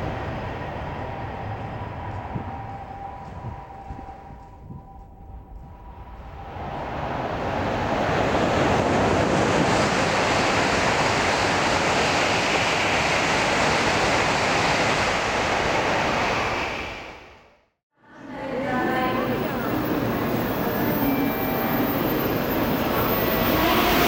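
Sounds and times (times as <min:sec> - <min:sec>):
high-speed train rushing past: 0:00.0 - 0:04.7, 0:05.8 - 0:24.0.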